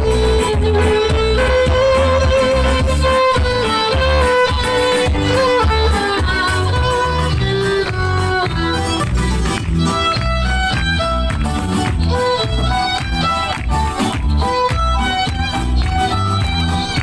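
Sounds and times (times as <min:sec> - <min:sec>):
steady bass line: 0:00.0 - 0:17.0
violin playing lively melody: 0:00.0 - 0:17.0.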